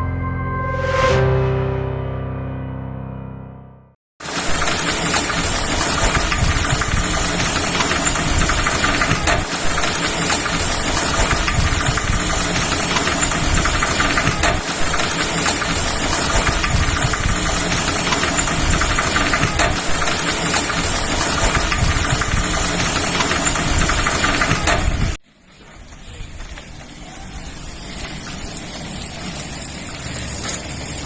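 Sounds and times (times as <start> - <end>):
bicycle rattling and clicking: 4.2 - 31.0.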